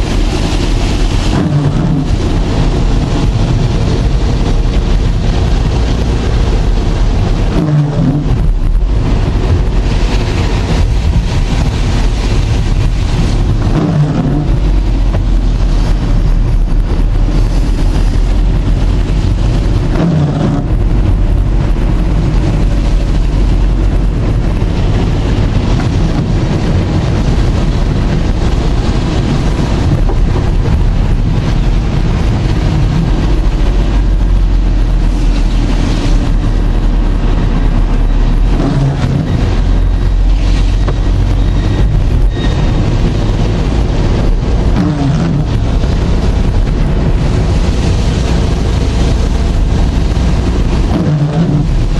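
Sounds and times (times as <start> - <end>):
strong wind buffeting microphone: 0.0 - 51.9.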